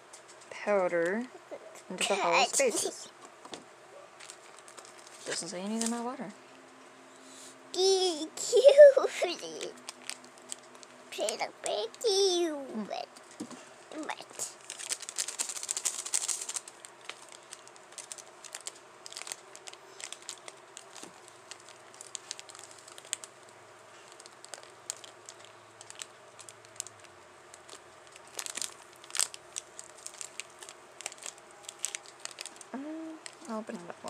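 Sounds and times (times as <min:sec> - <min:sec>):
plastic packaging crinkling: 0:04.2 - 0:06.1, 0:07.8 - 0:12.6, 0:13.2 - 0:33.9.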